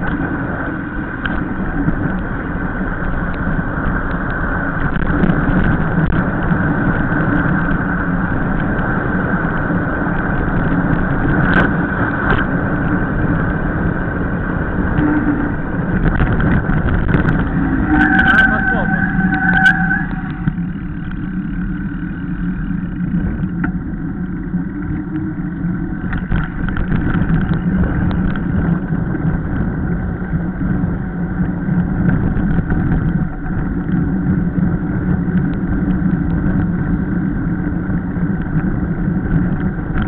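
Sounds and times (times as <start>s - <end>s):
bike tyres rolling on asphalt: 0.0s - 40.0s
wind over microphone: 0.0s - 40.0s.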